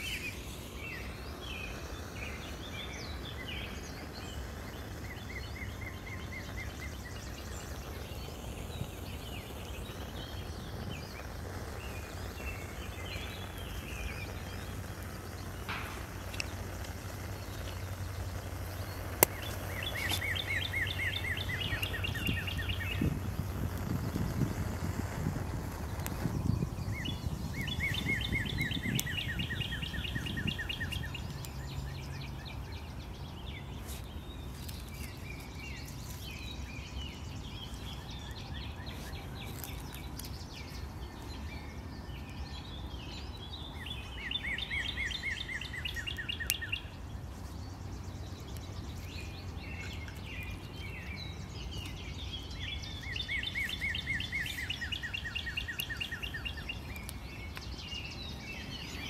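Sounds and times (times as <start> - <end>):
outdoor background noise: 0.0 - 59.0
songbird trilling: 0.0 - 59.0.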